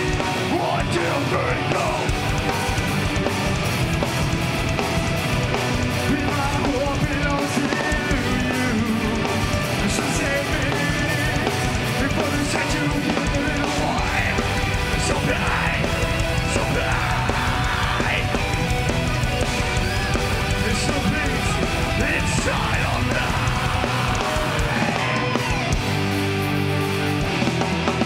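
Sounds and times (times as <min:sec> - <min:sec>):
bass guitar: 0:00.0 - 0:28.0
distorted electric guitars: 0:00.0 - 0:28.0
fast drum kit: 0:00.0 - 0:28.0.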